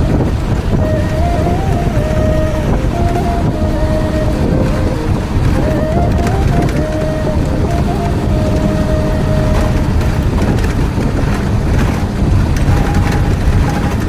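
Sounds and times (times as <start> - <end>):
vehicle rumble: 0.0 - 14.0
wind on microphone: 0.0 - 14.0.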